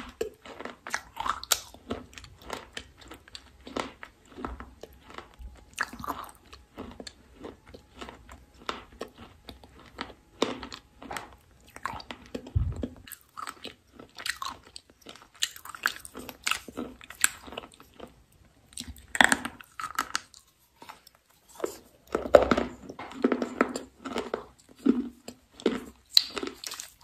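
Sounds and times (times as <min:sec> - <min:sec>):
biting and crunching: 0:00.0 - 0:27.0
chewing: 0:00.0 - 0:27.0.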